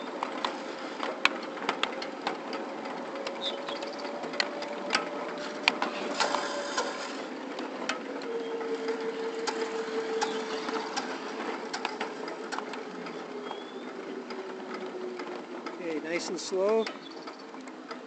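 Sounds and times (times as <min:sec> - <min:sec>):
locomotive running gear clattering: 0:00.0 - 0:18.0
wheels clicking on rails: 0:00.0 - 0:18.0.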